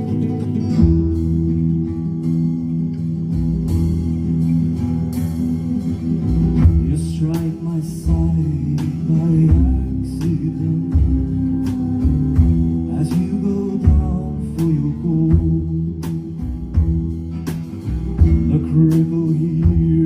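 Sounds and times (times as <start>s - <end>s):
plucked guitar notes: 0.0s - 20.0s
sustained low bass: 0.0s - 20.0s.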